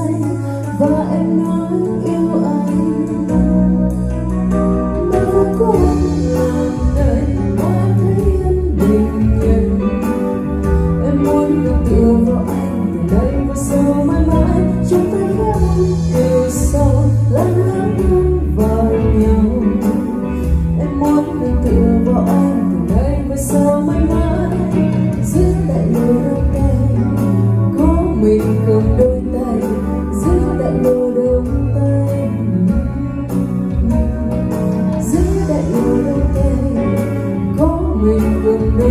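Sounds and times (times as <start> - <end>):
karaoke backing track with beat: 0.0 - 38.9
woman singing into a microphone: 0.0 - 38.9.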